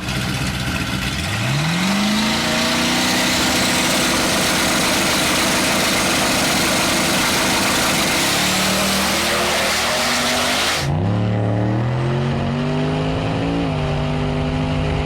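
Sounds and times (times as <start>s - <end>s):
burnout at high revs: 0.0s - 15.0s
car engine revving: 0.0s - 15.0s.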